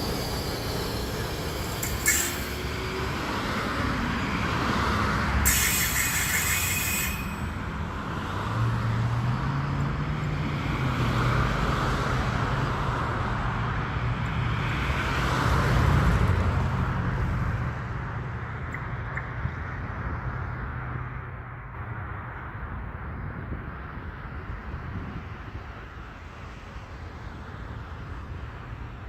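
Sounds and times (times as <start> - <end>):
subway train rumbling: 0.0 - 18.7, 20.0 - 29.0.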